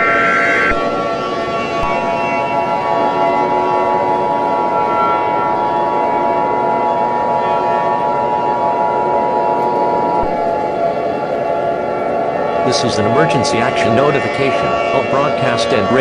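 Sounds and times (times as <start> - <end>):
emergency alert alarm tone: 0.0 - 16.0.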